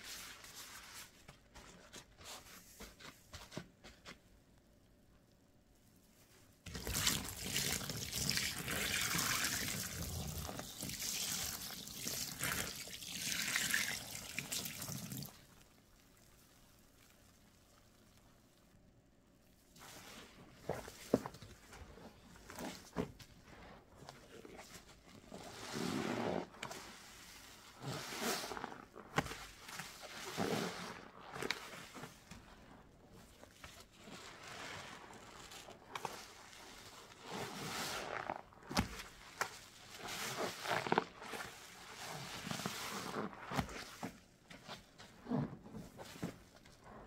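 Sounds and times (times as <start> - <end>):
soapy sponge squelching: 0.0 - 3.4, 6.6 - 18.7, 19.5 - 47.0.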